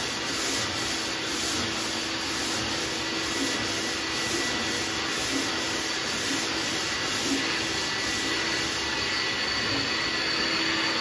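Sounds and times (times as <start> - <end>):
sanding block scrubbing on metal: 0.0 - 8.8
dust extractor vacuum running: 0.0 - 11.0.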